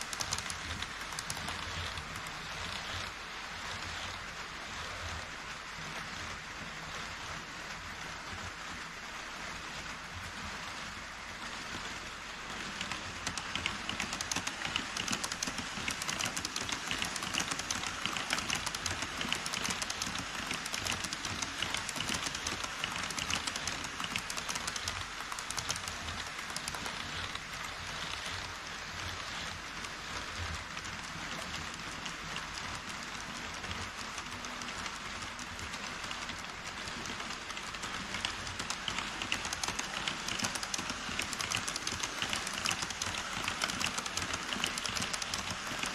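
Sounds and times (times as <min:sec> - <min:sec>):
model train wheels clattering: 0:00.0 - 0:45.9
steady hiss: 0:00.0 - 0:45.9.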